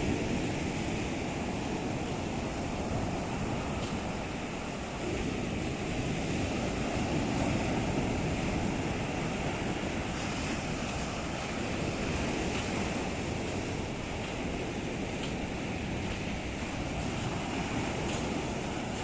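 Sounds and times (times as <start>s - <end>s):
waves breaking on shore: 0.0s - 19.0s
wind noise on microphone: 0.0s - 19.0s.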